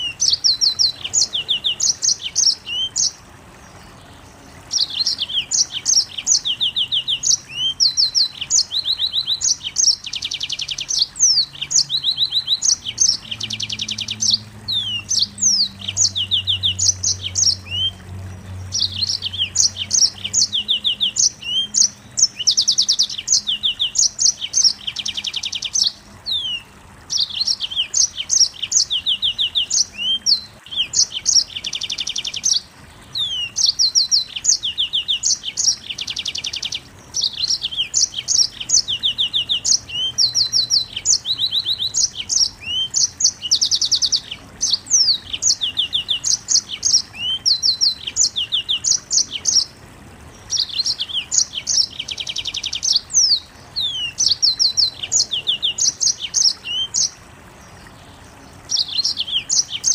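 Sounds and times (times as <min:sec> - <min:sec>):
bird singing fast trills: 0:00.0 - 0:59.9.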